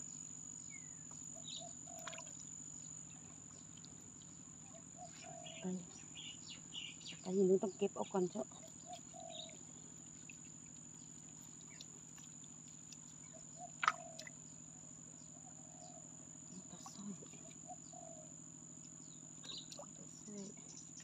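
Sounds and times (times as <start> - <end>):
crickets trilling: 0.0 - 21.0
low steady hum: 0.0 - 21.0.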